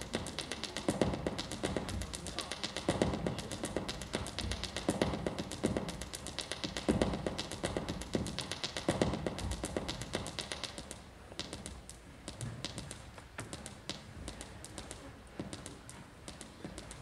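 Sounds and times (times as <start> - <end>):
sharp tapping and clicking: 0.0 - 17.0.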